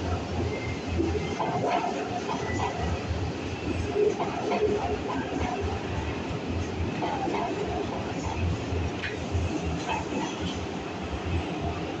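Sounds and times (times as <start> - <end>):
low thumps of train: 0.0 - 12.0
train wheels rumbling on rail: 0.0 - 12.0.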